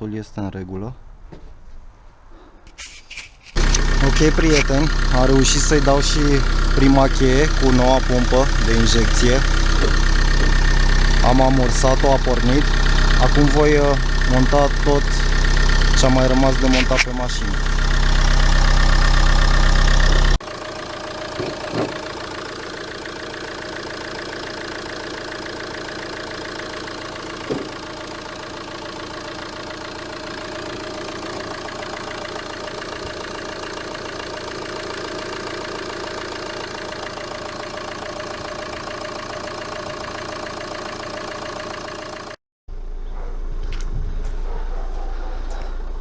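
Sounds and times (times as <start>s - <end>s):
diesel engine running: 3.6s - 42.4s.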